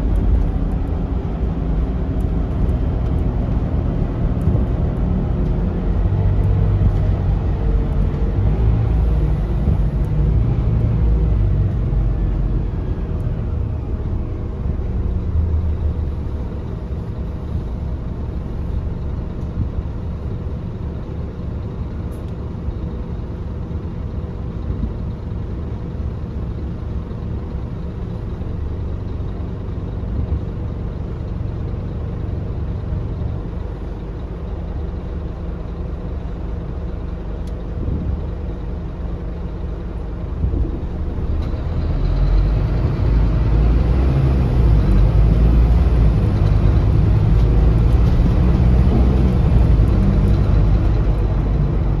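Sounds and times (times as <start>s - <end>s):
diesel bus engine rumbling: 0.0s - 52.0s
rising engine whine: 0.0s - 52.0s.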